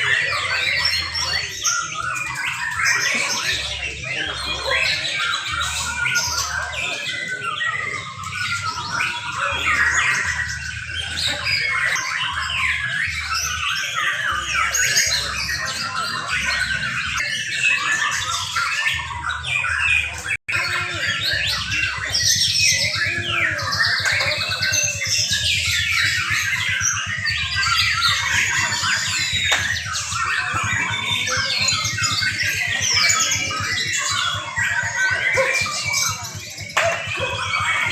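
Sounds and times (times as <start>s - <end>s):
birds singing whistles and chirps: 0.0s - 37.9s.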